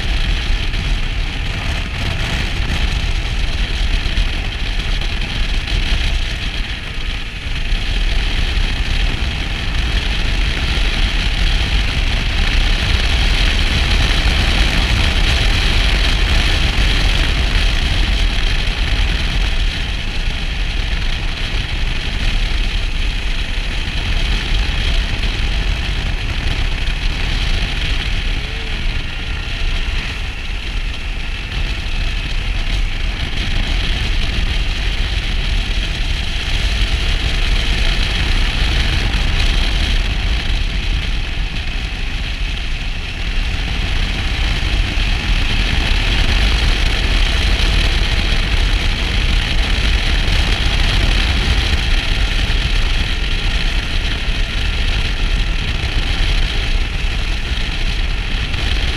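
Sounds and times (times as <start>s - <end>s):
motorcycle engine cruising: 0.0s - 58.9s
wind rushing over microphone: 0.0s - 58.9s.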